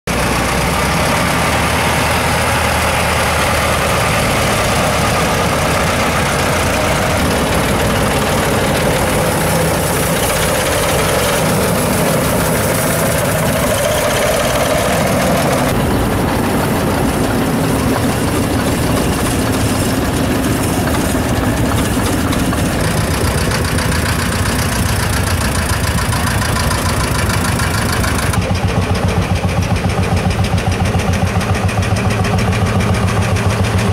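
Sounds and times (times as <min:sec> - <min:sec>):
tractor engines passing: 0:00.0 - 0:33.9.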